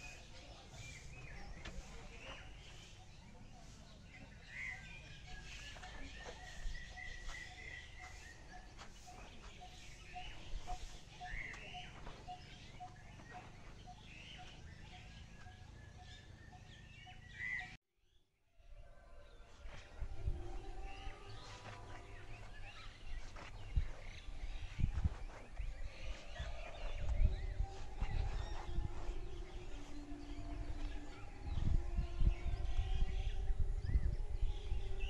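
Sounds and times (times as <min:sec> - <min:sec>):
low repeated bird call: 0:00.0 - 0:17.8, 0:18.7 - 0:35.0.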